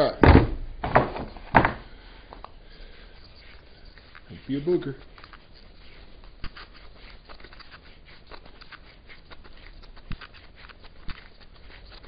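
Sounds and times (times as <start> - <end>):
shell scraping in wooden tool: 2.3 - 12.0.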